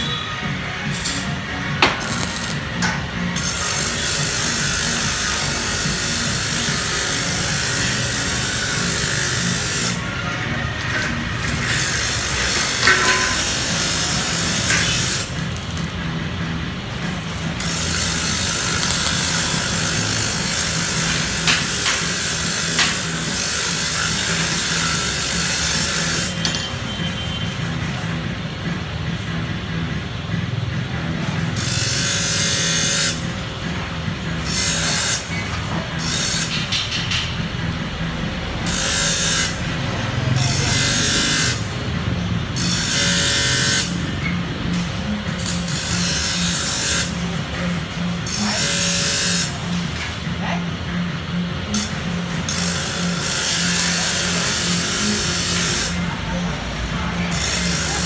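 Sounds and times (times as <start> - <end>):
background music with low beat: 0.0 - 58.0
power tool grinding iron: 0.8 - 16.2, 17.0 - 26.6, 31.4 - 33.3, 34.3 - 37.1, 38.6 - 41.8, 42.5 - 50.1, 51.7 - 58.0.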